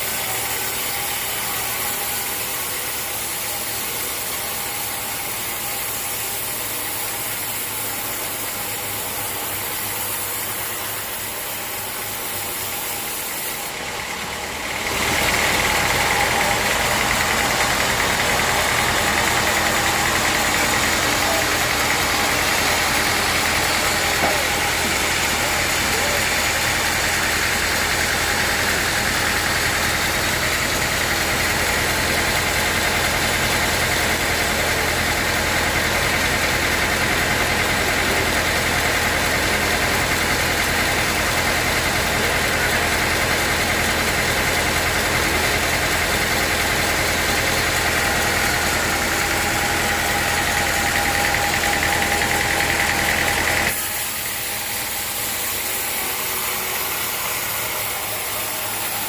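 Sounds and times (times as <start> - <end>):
sawmill machinery whining: 0.0 - 59.0.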